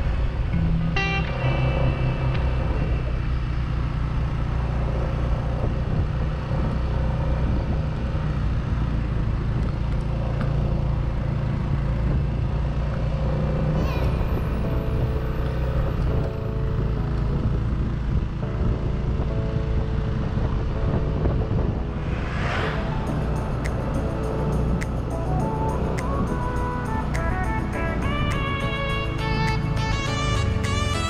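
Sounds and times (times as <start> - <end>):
wind and road noise rumble: 0.0 - 31.0.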